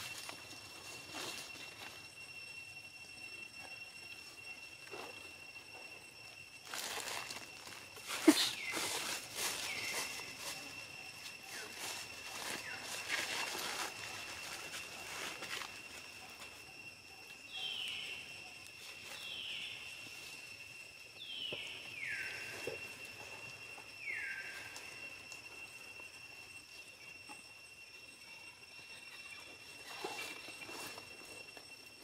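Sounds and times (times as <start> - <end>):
forest ambience: 0.0 - 32.0
high-pitched insect drone: 0.0 - 32.0.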